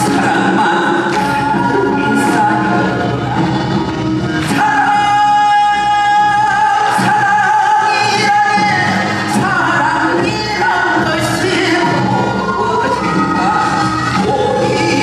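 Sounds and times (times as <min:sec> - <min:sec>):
man singing: 0:00.0 - 0:03.4, 0:04.3 - 0:15.0.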